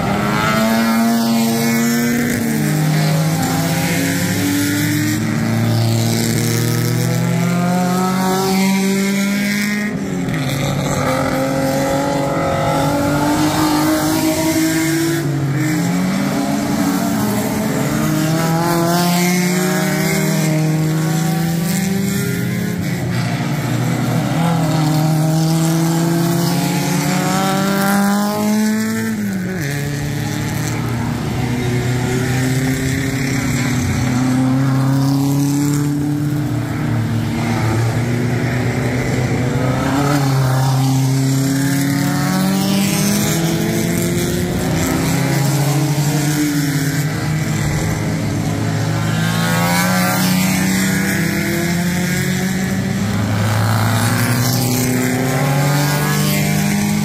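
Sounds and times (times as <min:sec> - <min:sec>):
racing car engine accelerating: 0:00.0 - 0:57.0.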